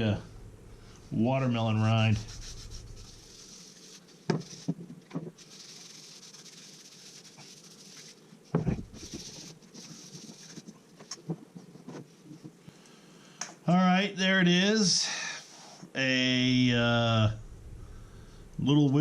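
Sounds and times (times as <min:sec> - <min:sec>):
soft rubbing hiss: 0:00.0 - 0:13.4, 0:14.8 - 0:19.0.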